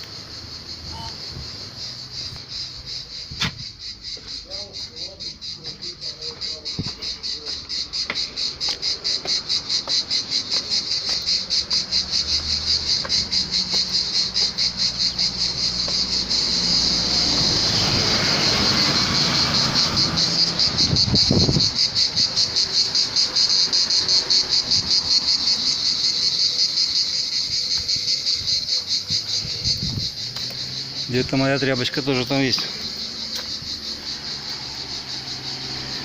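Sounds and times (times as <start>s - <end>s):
insects chirring in pulses: 0.0s - 36.0s.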